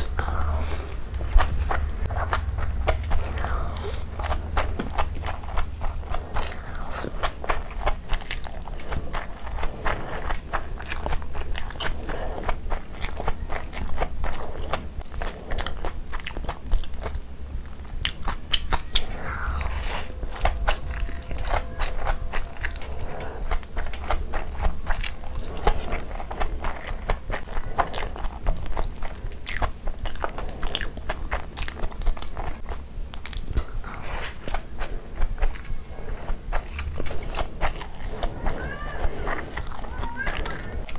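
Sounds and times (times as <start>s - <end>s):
wet chewing and smacking: 0.0s - 40.9s.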